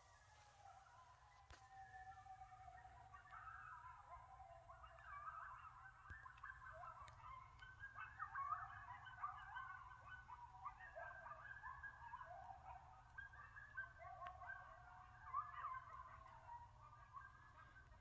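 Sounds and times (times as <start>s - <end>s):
coyotes yipping and howling: 0.0s - 18.0s.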